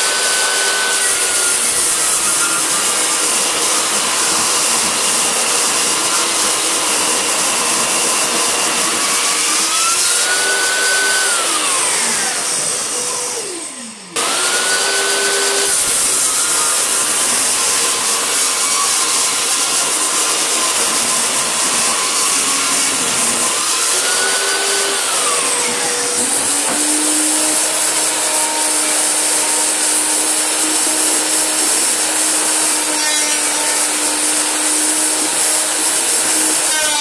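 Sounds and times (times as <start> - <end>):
table saw cutting wood: 0.0 - 37.0.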